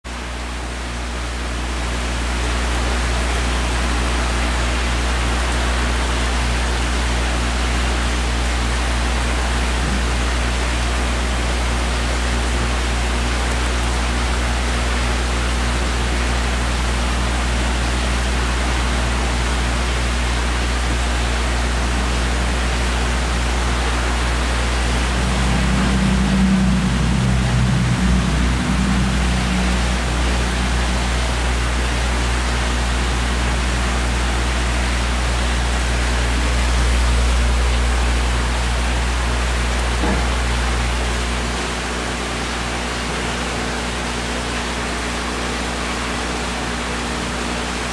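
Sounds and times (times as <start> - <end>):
flowing water rushing: 0.1 - 47.9
low pump hum: 0.1 - 47.9.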